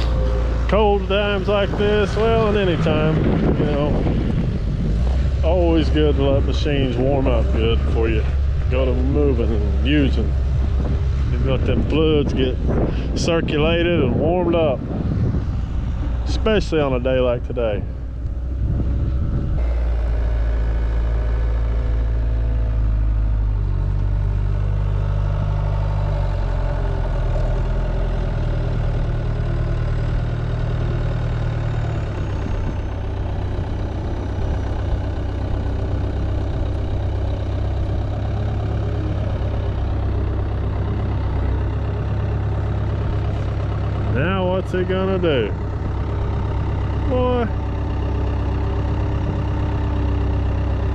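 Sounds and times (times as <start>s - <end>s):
skid steer engine running: 0.0s - 50.9s.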